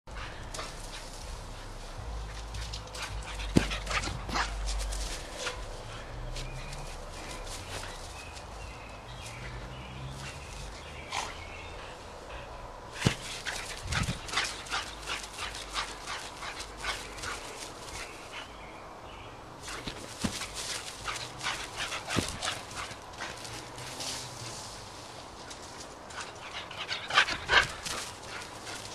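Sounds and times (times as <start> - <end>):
dog running on grass: 0.1 - 11.7, 12.9 - 18.6, 19.6 - 28.9.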